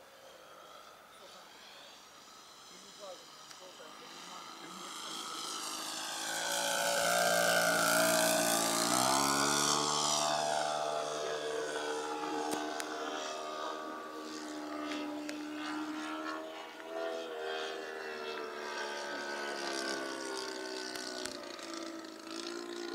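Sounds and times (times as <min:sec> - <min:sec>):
model plane engine passing: 0:00.0 - 0:22.9.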